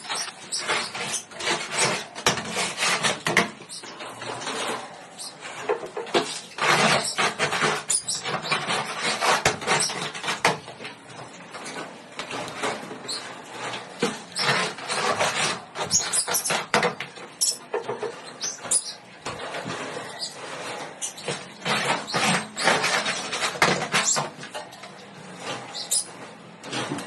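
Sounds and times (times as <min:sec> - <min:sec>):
parrots chirping and squeaking: 0:00.0 - 0:27.0
quick clicks and scratches: 0:00.0 - 0:27.0.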